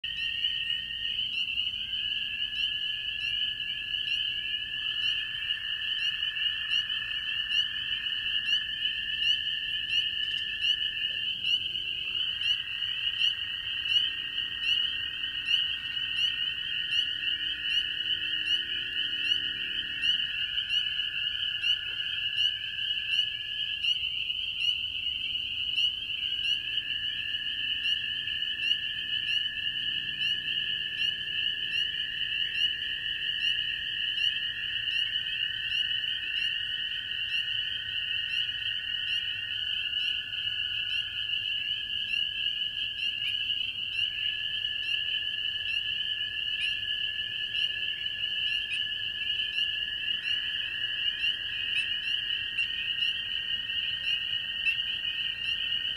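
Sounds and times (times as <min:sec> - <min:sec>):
distant frogs peeping: 0:00.0 - 0:55.9
toads trilling: 0:00.0 - 0:55.9.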